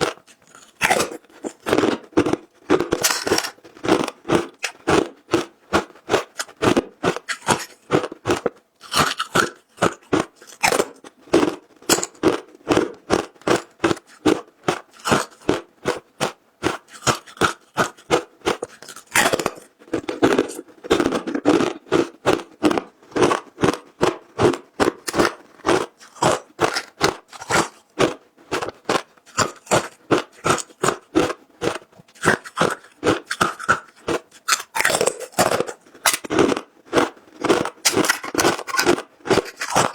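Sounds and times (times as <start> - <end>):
ice being chewed crunching: 0.0 - 39.9.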